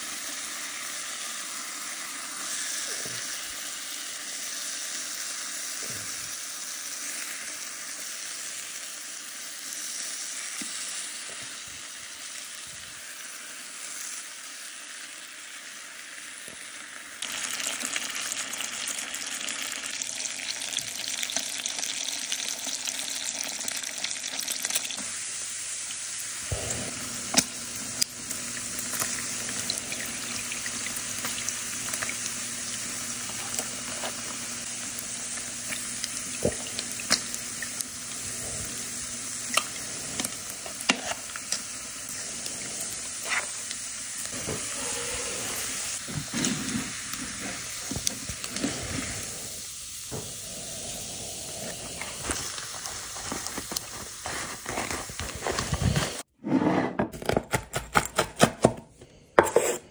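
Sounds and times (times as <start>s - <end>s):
food sizzling in a pan: 0.0s - 56.3s.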